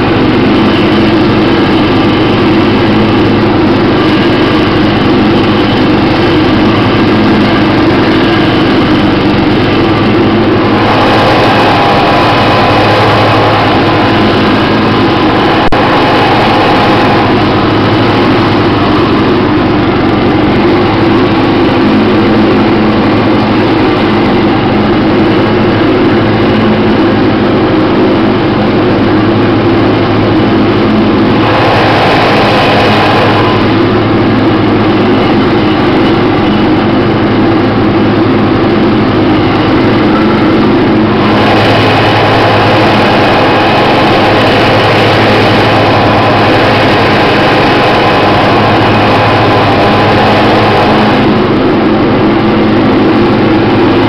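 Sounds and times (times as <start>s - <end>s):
lawn tractor engine mowing: 0.0s - 54.0s.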